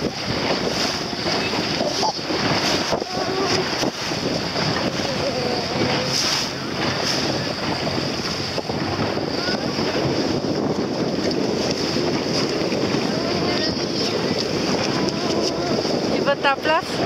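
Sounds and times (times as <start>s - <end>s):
choppy sea water splashing: 0.0s - 17.0s
wind buffeting microphone: 0.0s - 17.0s.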